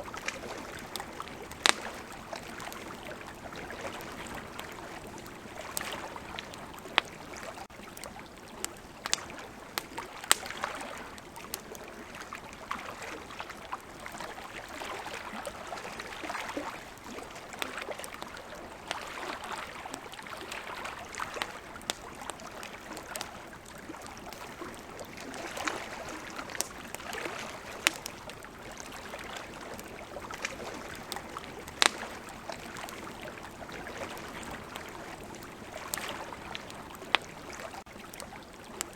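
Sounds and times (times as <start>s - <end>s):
campfire crackling and popping: 0.0s - 38.9s
flowing river water: 0.0s - 38.9s.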